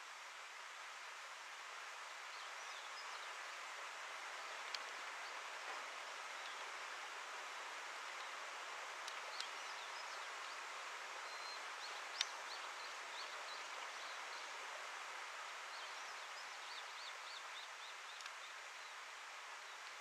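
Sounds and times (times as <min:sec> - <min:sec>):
steady outdoor hiss: 0:00.0 - 0:20.0
small birds chirping: 0:02.2 - 0:20.0.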